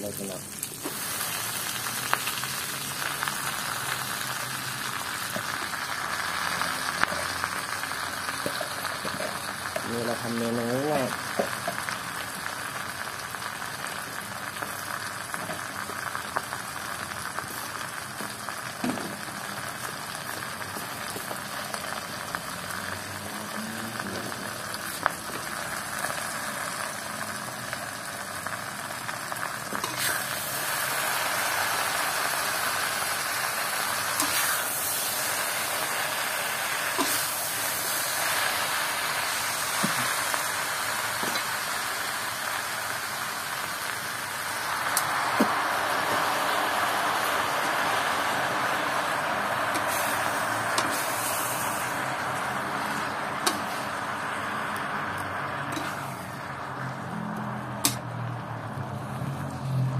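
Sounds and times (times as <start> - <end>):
leaves sizzling in a hot pan: 0.0 - 59.9.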